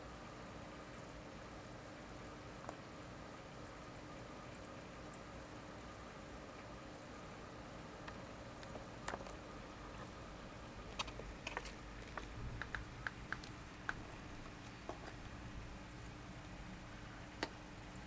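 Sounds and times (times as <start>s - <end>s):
aquarium filter hum: 0.0s - 18.0s.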